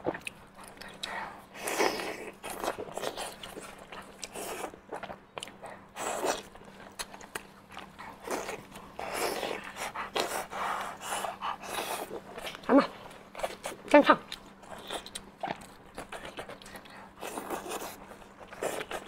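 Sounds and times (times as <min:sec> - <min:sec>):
faint electrical hum: 0:00.0 - 0:19.0
wet chewing and sucking: 0:00.0 - 0:19.0.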